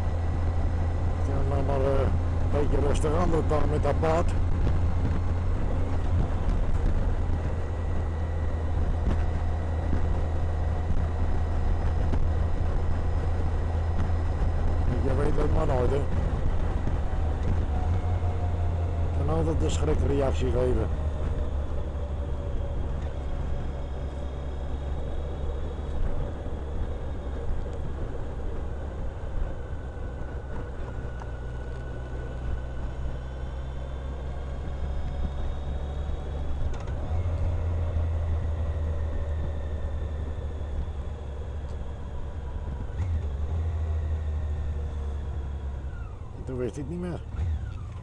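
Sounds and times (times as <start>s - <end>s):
wind noise: 0.0s - 46.4s
faint whine: 0.0s - 48.0s
motorcycle engine: 0.0s - 48.0s.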